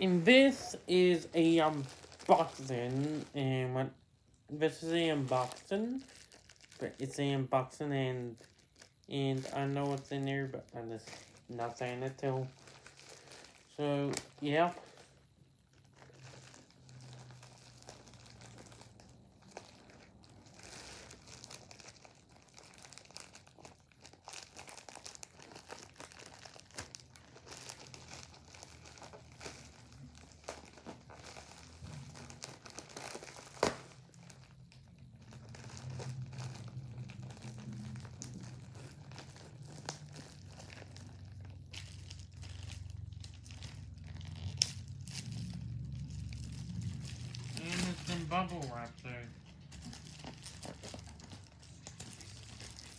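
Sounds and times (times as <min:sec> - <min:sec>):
packaging crinkling: 0:00.0 - 0:52.9.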